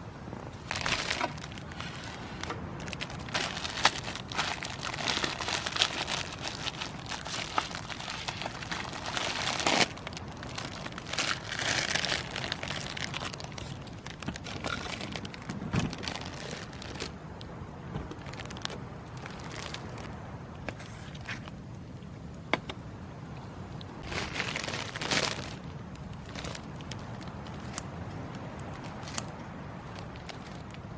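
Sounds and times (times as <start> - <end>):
crinkling and crackling: 0.0 - 30.9.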